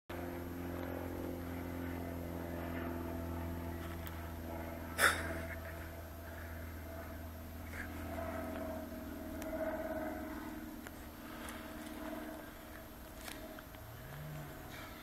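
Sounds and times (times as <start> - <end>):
low mechanical hum: 0.1 - 15.0.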